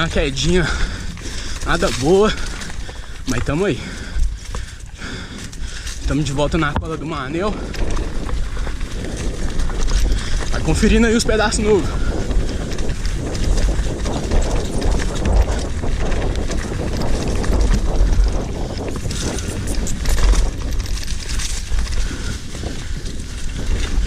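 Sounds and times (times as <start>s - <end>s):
bike rattling over stones: 0.0s - 24.0s
wind rumbling on microphone: 0.0s - 24.0s.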